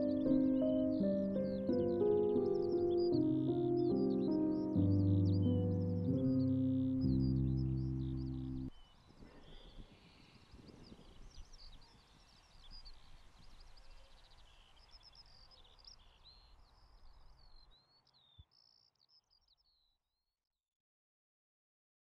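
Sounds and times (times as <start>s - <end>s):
soft outdoor hiss: 0.0s - 19.2s
birds chirping: 0.0s - 19.6s.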